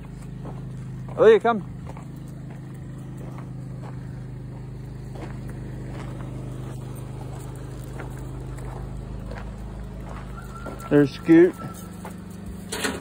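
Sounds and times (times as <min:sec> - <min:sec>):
footsteps on gravel: 0:00.0 - 0:13.0
motor humming: 0:00.0 - 0:13.0.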